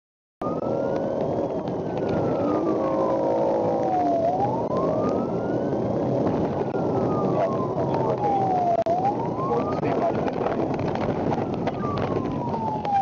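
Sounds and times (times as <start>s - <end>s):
road and engine noise: 0.4s - 13.0s
siren wailing: 0.4s - 13.0s.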